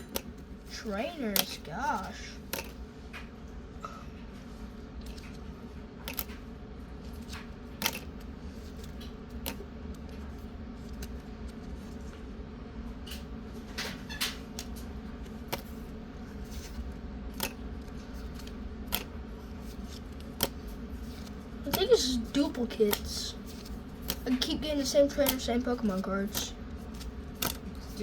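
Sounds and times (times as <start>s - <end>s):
trading cards clicking and snapping: 0.0s - 3.3s, 5.0s - 11.6s, 13.1s - 28.0s
steady low hum: 0.0s - 28.0s.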